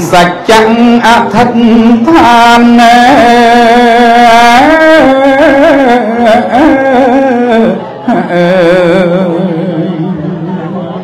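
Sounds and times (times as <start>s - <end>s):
person chanting: 0.0s - 11.0s.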